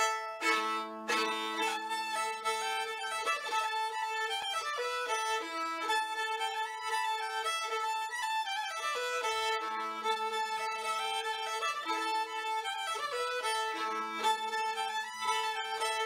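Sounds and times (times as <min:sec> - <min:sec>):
fiddle playing a tune: 0:00.0 - 0:16.0.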